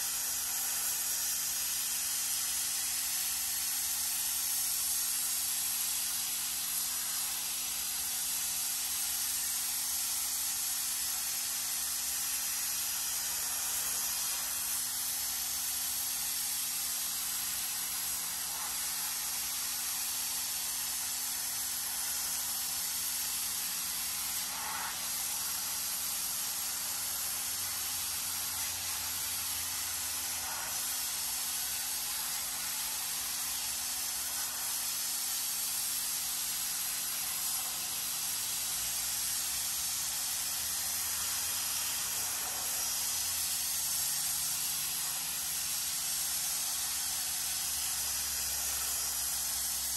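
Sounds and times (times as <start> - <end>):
pressure washer spray hissing: 0.0 - 49.9.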